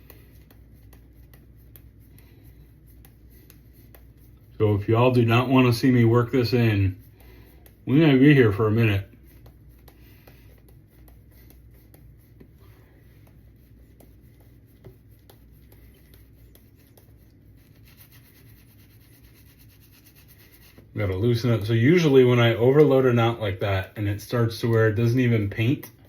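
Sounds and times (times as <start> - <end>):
shaving brush rubbing soap: 0.0 - 26.0.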